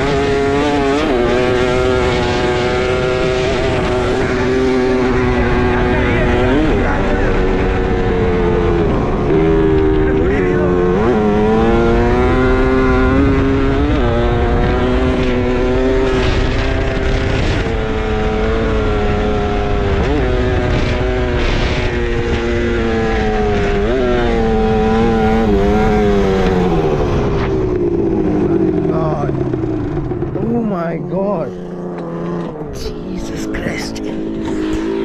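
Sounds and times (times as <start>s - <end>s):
quad bike engine at high revs: 0.0s - 35.0s.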